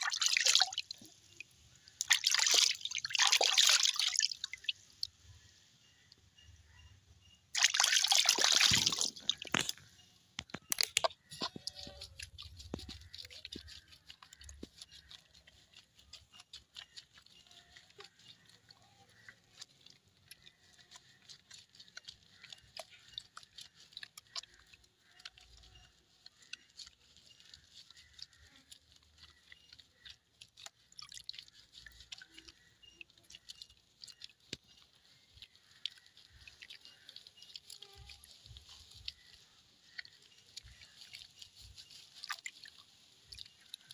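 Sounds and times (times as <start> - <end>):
water splashing in a plastic basin: 0.0 - 5.4, 7.4 - 43.9
water dripping: 0.0 - 43.9.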